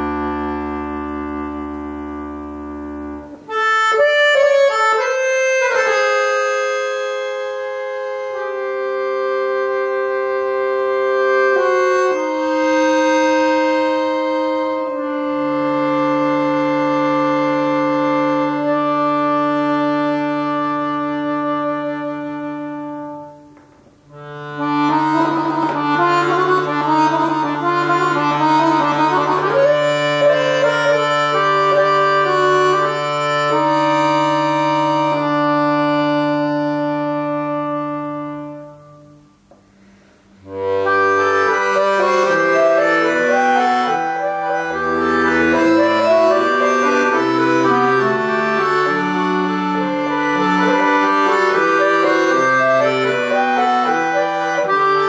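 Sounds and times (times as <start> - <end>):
accordion playing slow piece: 0.0 - 55.0.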